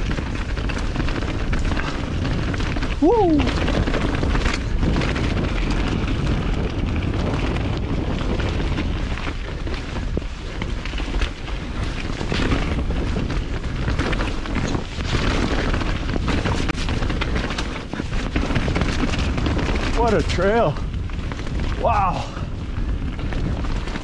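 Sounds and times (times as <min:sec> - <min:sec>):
bike rattling and knocking: 0:00.0 - 0:24.0
tyres on dirt: 0:00.0 - 0:24.0
wind buffeting microphone: 0:00.0 - 0:24.0.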